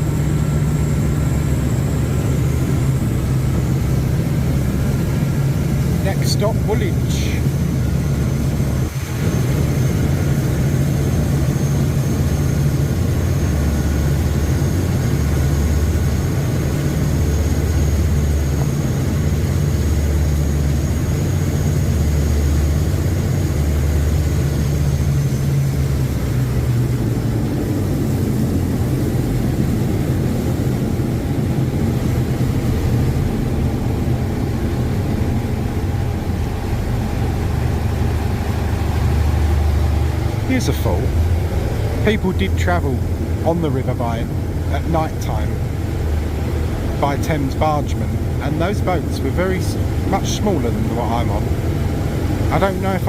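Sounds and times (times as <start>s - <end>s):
boat engines droning: 0.0s - 53.0s
faint high whine: 0.0s - 53.0s.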